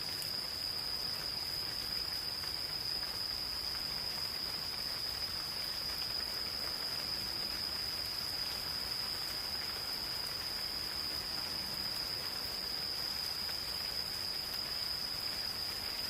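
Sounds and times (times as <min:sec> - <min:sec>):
light rain on foliage: 0:00.0 - 0:16.0.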